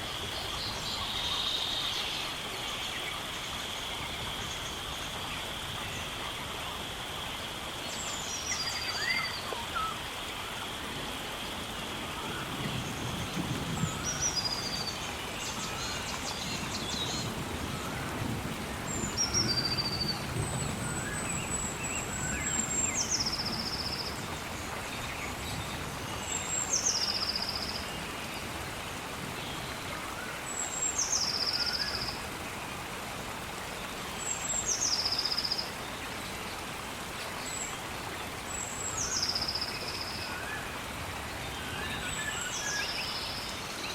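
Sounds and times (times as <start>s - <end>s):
steady rain-like hiss: 0.0s - 43.9s.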